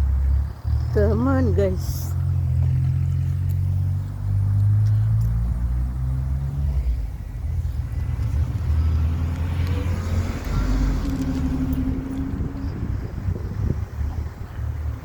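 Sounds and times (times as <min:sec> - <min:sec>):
car passing: 0:00.0 - 0:15.0
low traffic rumble: 0:00.0 - 0:15.0.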